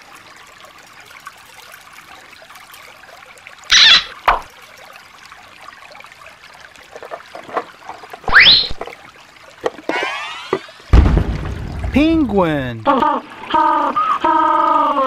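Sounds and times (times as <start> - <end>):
water trickling over stones: 0.0 - 13.5.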